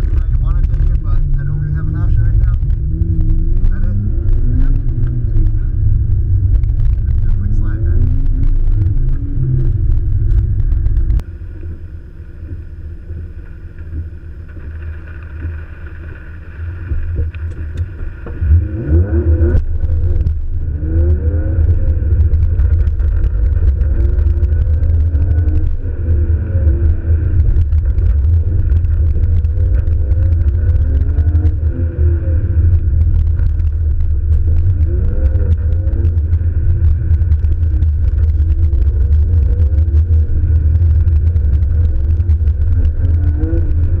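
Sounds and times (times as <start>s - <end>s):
muffled car engine revving: 0.0s - 44.0s.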